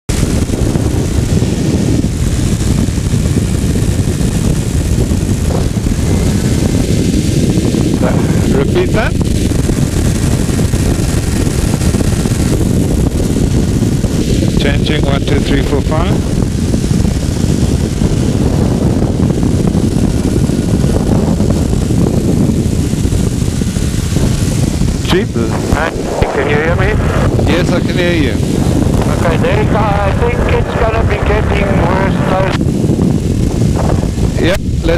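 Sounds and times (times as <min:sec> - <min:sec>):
strong wind buffeting microphone: 0:00.1 - 0:34.9.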